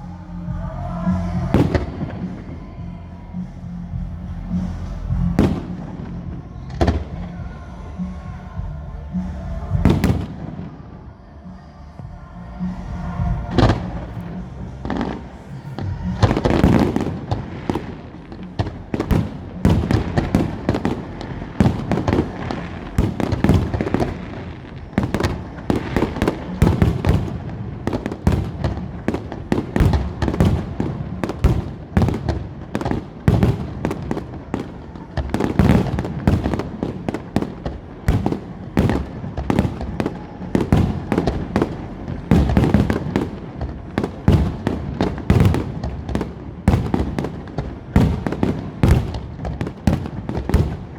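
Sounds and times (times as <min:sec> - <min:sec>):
fireworks banging and crackling: 0:00.0 - 0:50.9
low booming echoes: 0:00.0 - 0:50.9.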